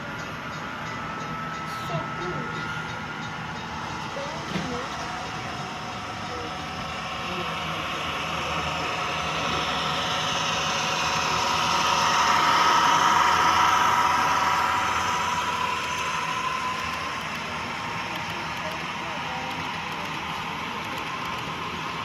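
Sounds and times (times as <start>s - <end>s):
model train running past: 0.0s - 22.0s
steady whine: 0.0s - 22.0s.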